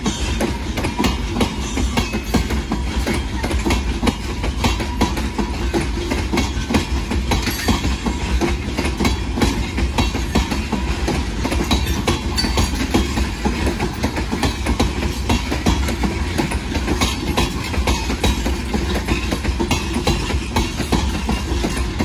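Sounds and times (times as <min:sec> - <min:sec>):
train wheels rumbling on rail: 0:00.0 - 0:22.0
wheels clanking over track: 0:00.0 - 0:22.0.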